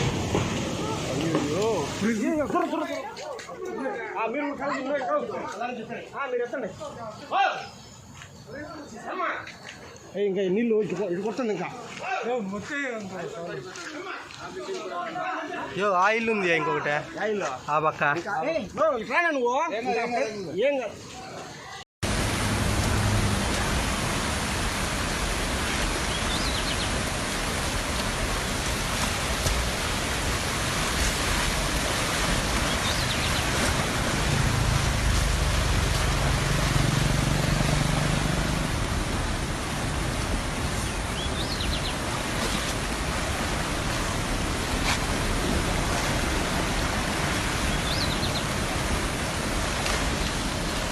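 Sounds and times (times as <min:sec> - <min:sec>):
floodwater rushing: 0:00.0 - 0:07.5, 0:08.8 - 0:19.7, 0:20.9 - 0:50.9.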